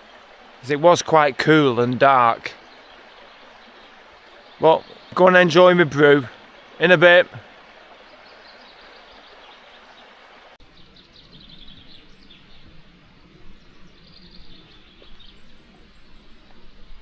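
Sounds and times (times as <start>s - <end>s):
brook babbling: 0.0s - 17.0s
small birds chirping: 0.0s - 17.0s.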